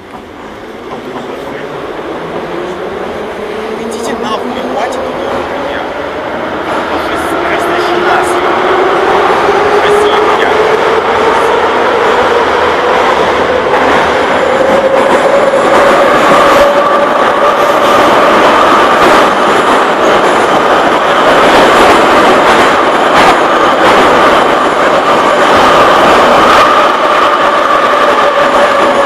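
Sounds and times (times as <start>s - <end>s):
train running through tunnel: 0.0s - 29.0s.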